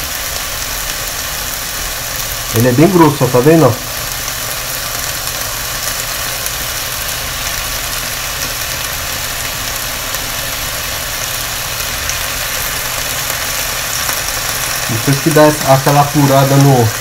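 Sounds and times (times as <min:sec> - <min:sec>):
meat and onions sizzling in a pan: 0:00.0 - 0:17.0.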